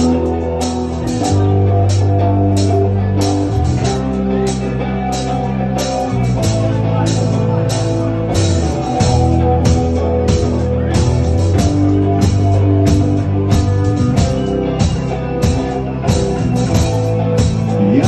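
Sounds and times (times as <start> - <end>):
rock song with guitar and drums: 0.0 - 18.0.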